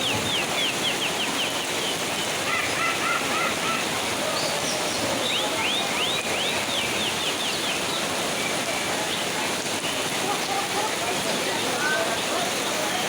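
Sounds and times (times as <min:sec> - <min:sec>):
songbirds singing: 0:00.0 - 0:10.5
steady rain hiss: 0:00.0 - 0:13.0.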